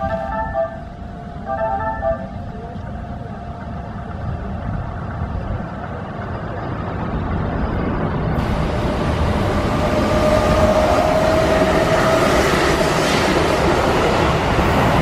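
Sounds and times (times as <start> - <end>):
high whine of train: 0.0 - 15.0
train rumble: 0.0 - 15.0.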